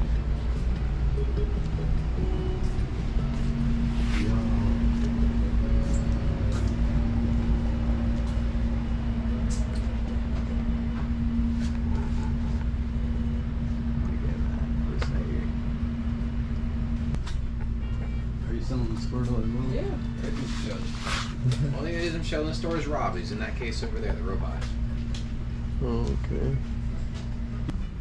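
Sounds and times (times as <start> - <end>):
low rumble with droning hum: 0.0 - 28.0.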